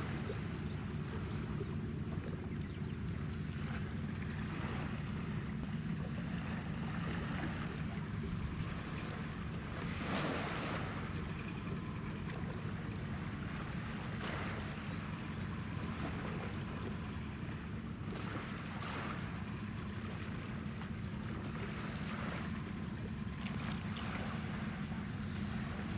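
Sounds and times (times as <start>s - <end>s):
waves washing in: 0.0s - 1.8s, 3.0s - 25.9s
low water rumble: 0.0s - 25.9s.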